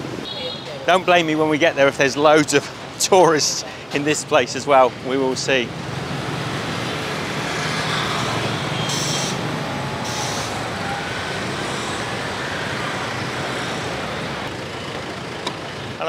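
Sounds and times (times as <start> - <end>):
street traffic engines passing: 0.0 - 16.0.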